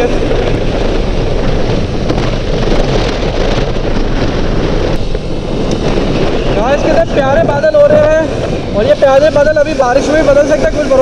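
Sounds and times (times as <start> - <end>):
road noise: 0.0 - 11.0
wind buffeting microphone: 0.0 - 11.0.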